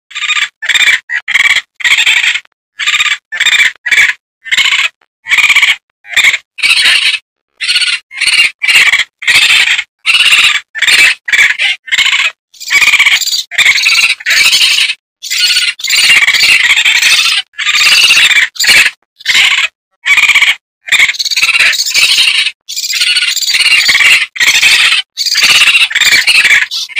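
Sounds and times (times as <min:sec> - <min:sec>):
raccoon high-pitched cries: 0:00.1 - 0:26.9.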